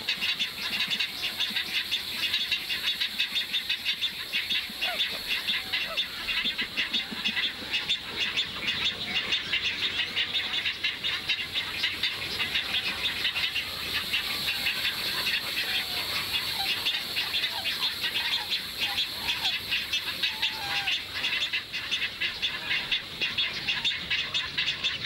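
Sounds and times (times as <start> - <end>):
birds chirping and chattering: 0.0 - 25.0
lower bird calls: 0.0 - 25.0.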